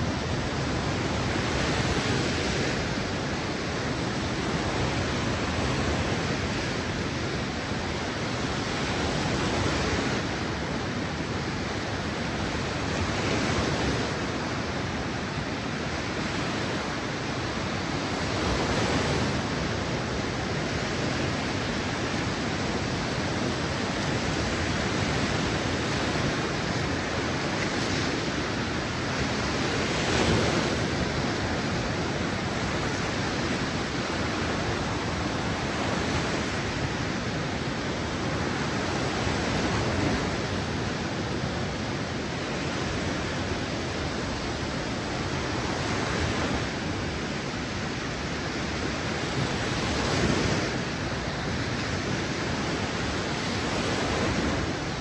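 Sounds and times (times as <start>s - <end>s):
waves washing onto sandy beach: 0.0s - 55.0s.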